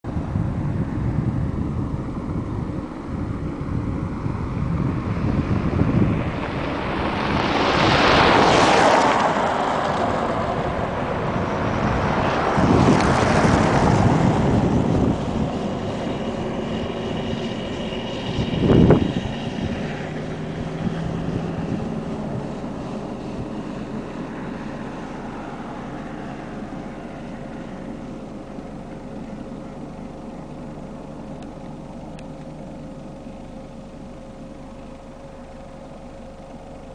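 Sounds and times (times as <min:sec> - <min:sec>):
motor vehicle running: 0:00.0 - 0:36.9.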